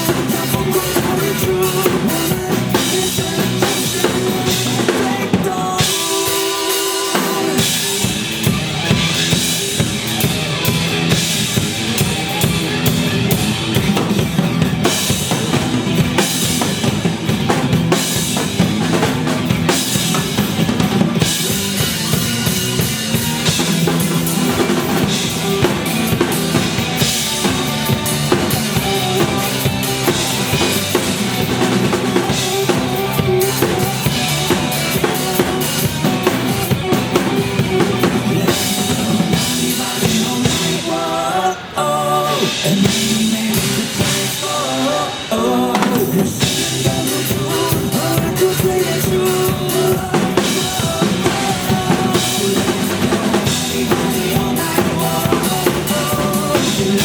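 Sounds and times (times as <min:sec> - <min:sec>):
drum kit beat: 0:00.0 - 0:57.0
rock backing track: 0:00.0 - 0:57.0.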